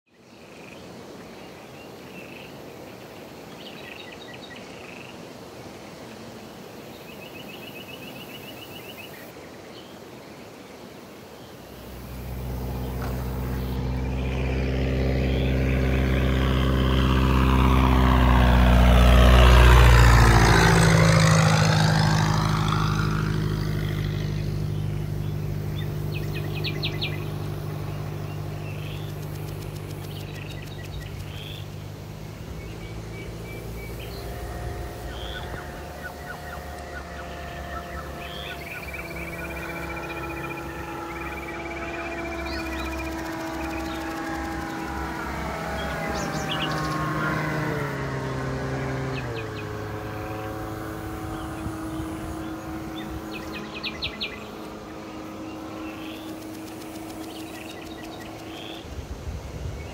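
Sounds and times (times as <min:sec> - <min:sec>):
propeller plane engine drone: 0:00.1 - 0:59.9
birds chirping: 0:06.8 - 0:59.9.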